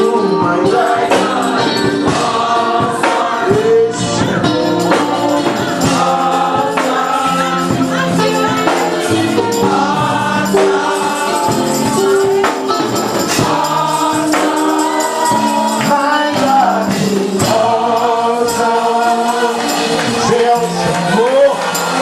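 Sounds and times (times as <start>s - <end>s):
choir singing gospel: 0.0s - 22.0s
sustained instrumental chords: 0.0s - 22.0s
tambourine shaking: 4.3s - 22.0s.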